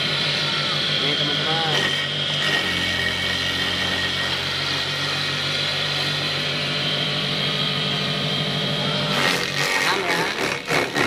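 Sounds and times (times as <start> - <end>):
electric motor chopper running: 0.0 - 11.0.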